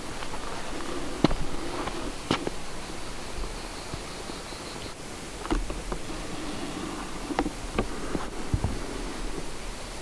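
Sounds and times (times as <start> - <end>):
insect buzzing: 0.0 - 10.0.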